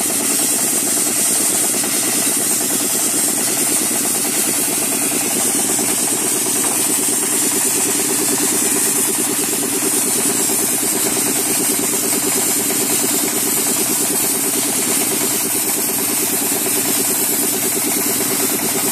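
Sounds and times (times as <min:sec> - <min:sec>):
sand and water jet hissing: 0:00.0 - 0:18.9.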